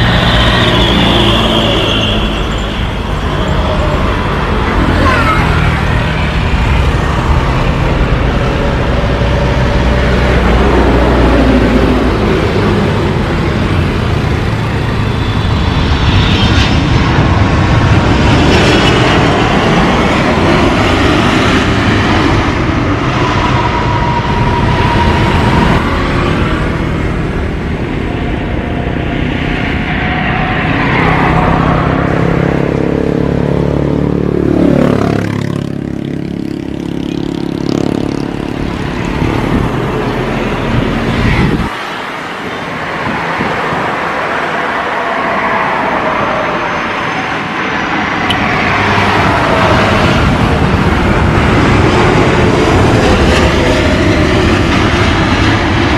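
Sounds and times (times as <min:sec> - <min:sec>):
jet engines roaring: 0:00.0 - 0:55.9
whining engine tones: 0:00.0 - 0:55.9.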